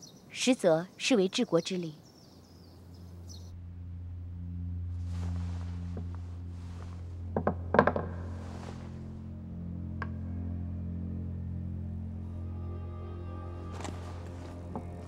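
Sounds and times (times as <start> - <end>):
low musical drone: 2.5 - 15.0.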